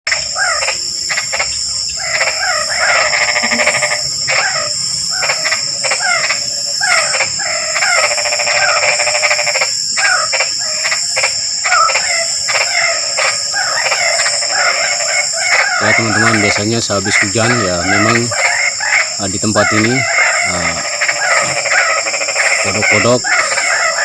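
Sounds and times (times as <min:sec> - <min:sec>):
frogs croaking: 0:00.0 - 0:24.0
frog trilling calls: 0:00.1 - 0:24.0
high-pitched whine: 0:00.1 - 0:24.0.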